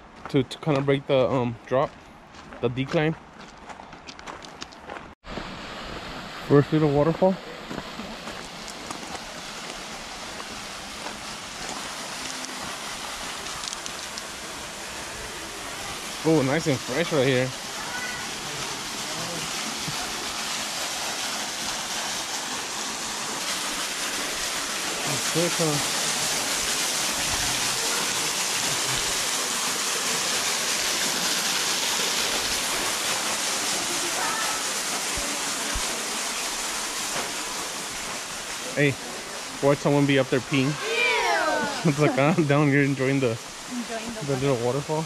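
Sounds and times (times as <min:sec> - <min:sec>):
small waterfall rushing: 0:04.9 - 0:45.0.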